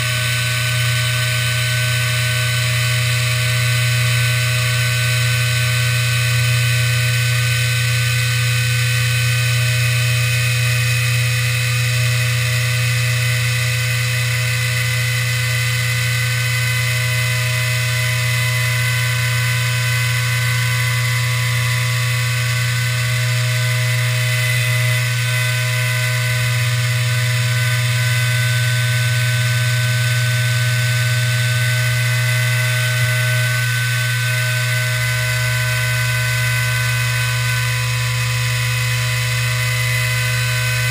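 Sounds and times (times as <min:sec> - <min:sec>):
cnc router cutting: 0:00.0 - 0:40.9.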